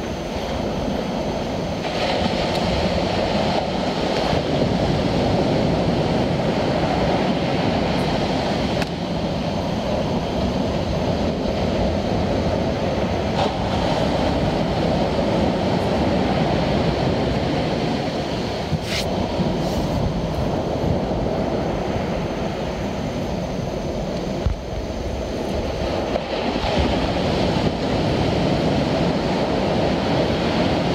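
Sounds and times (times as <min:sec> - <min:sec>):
rumbling surf: 0:00.0 - 0:30.9
wind noise on microphone: 0:00.0 - 0:30.9.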